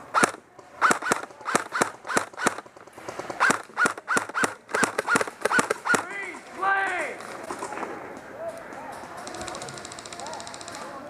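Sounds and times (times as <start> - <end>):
airsoft rifle shots: 0.0 - 8.2, 8.8 - 11.0.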